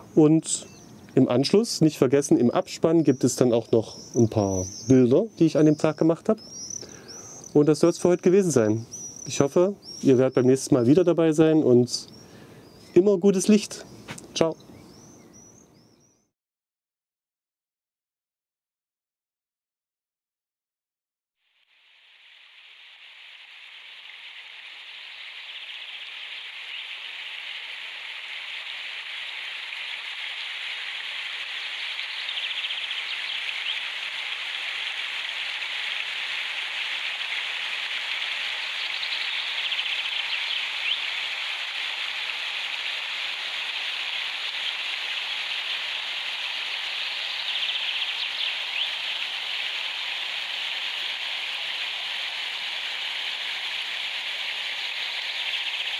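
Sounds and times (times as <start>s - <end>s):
stream running over rocks: 1.2s - 11.9s, 21.6s - 55.9s.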